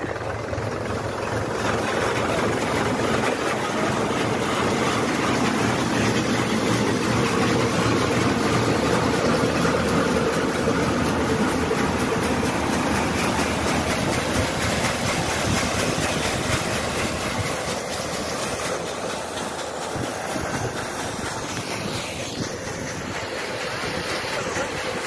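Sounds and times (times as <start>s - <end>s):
shelling machine clattering: 0.1s - 25.0s.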